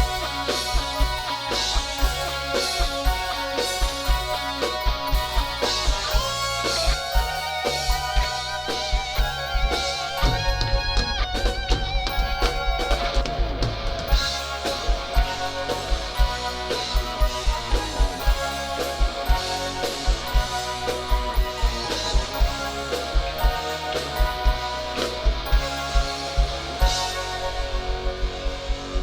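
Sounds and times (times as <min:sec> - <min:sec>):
rock band playing: 0:00.0 - 0:29.0
steady kick drum beat: 0:00.0 - 0:29.0
sustained electric guitar chords: 0:00.0 - 0:29.0.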